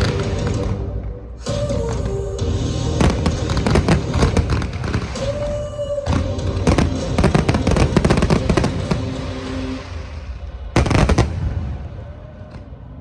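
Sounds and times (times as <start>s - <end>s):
fireworks bangs and crackles: 0.0s - 1.0s, 1.9s - 13.0s.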